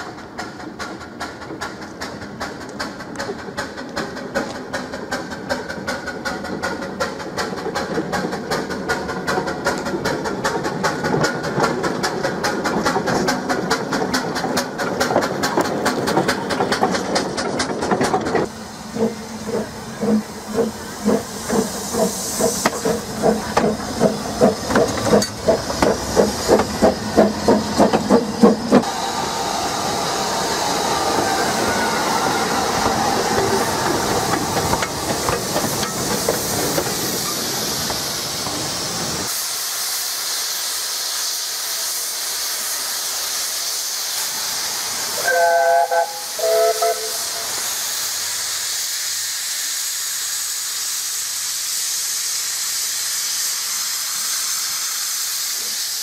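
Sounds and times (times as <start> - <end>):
steam hissing: 0.0 - 56.0
steam locomotive exhaust chuffs: 0.0 - 56.0.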